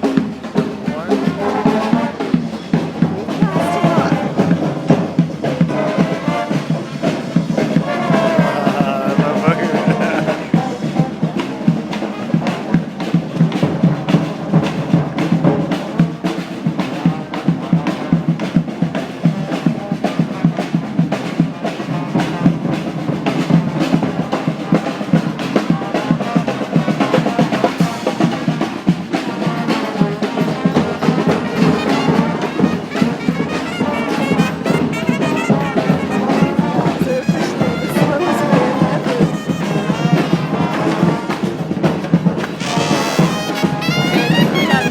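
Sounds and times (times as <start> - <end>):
brass horns playing: 0.0 - 18.8, 24.1 - 44.9
driving drumbeat: 0.0 - 44.9.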